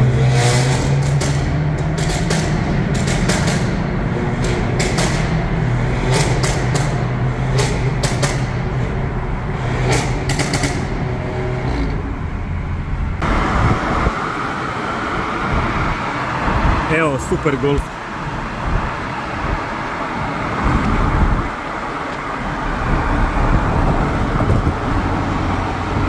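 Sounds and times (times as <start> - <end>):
car engine droning under load: 0.0 - 26.0
road and traffic hiss: 0.0 - 26.0.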